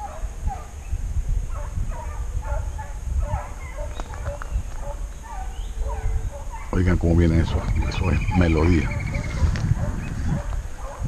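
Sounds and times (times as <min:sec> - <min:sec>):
hounds baying in the distance: 0:00.0 - 0:11.0.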